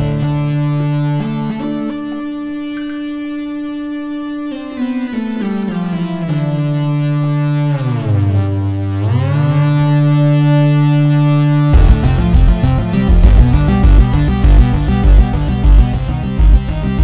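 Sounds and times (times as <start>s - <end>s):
choppy synthesizer pattern: 0.0s - 17.0s
synthesizer low note gliding: 0.0s - 17.0s.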